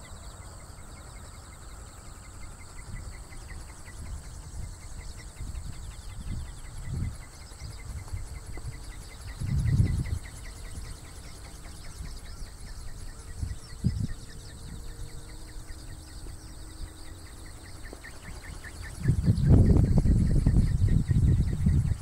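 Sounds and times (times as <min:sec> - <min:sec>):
high insect trill: 0:00.0 - 0:22.0
insects chirping: 0:00.0 - 0:22.0
wind gusts on microphone: 0:02.4 - 0:22.0.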